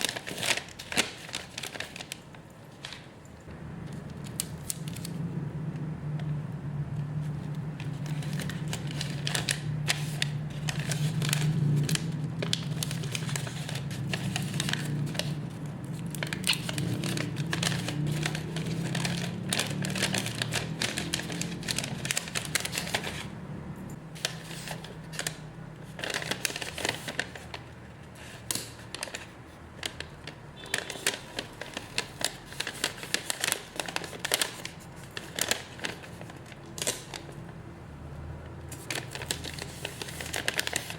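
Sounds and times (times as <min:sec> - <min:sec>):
plastic packaging crinkling: 0:00.0 - 0:03.3, 0:07.4 - 0:23.3, 0:24.2 - 0:37.6, 0:38.7 - 0:40.9.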